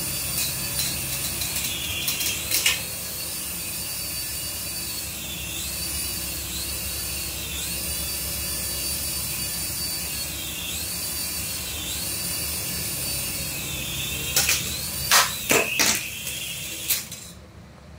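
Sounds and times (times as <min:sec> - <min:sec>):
toy helicopter motors whining: 0:00.0 - 0:17.4.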